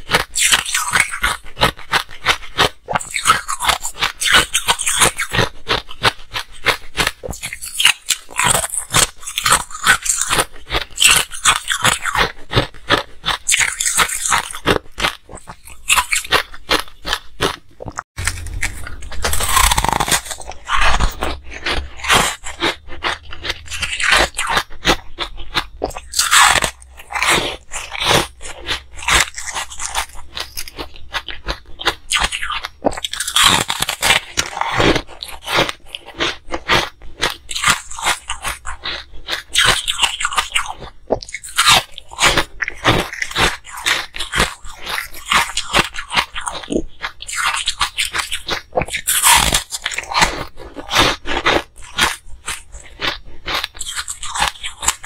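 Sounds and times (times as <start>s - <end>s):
chewing hard ice crunches: 0.0s - 55.0s.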